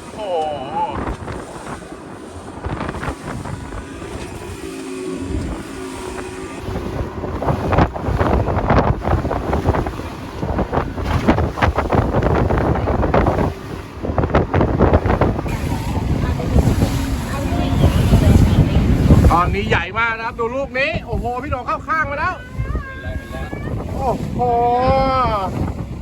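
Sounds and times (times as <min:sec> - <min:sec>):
boat engine running: 0:00.0 - 0:26.0
water rushing and splashing: 0:00.0 - 0:26.0
wind buffeting microphone: 0:00.0 - 0:26.0.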